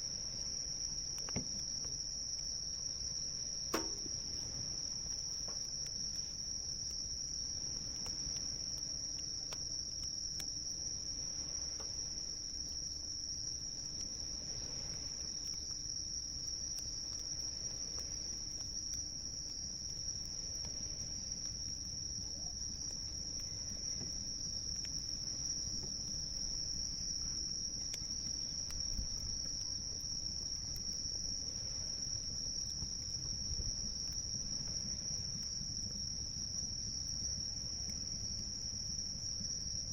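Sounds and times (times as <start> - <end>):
campfire crackling: 0.0 - 39.9
insects trilling: 0.0 - 39.9.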